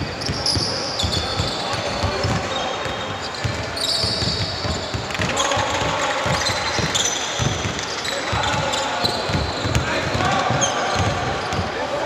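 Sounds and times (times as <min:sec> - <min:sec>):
shoes squeaking on floor: 0:00.0 - 0:11.8
basketball bouncing: 0:00.2 - 0:11.7.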